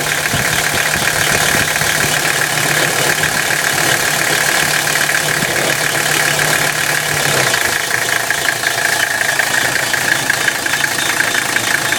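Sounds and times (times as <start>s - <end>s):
diesel engine running: 0.0s - 11.9s
rapidly pulsing grinding: 0.0s - 11.9s.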